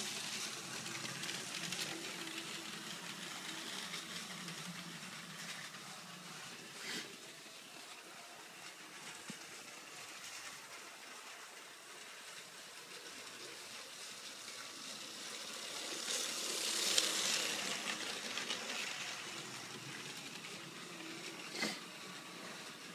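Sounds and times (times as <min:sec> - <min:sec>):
toy train motor whirring: 0:00.0 - 0:22.9
wheels on plastic track: 0:00.0 - 0:22.9.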